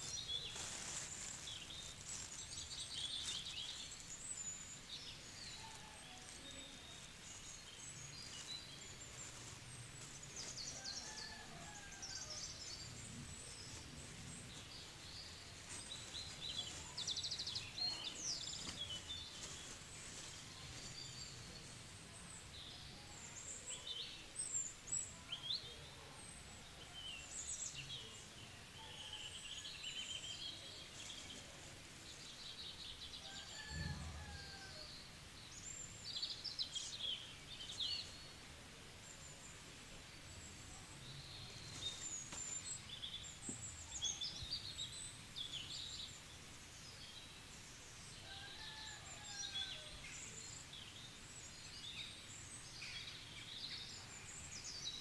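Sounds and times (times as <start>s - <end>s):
faint steady background noise: 0.0s - 55.0s.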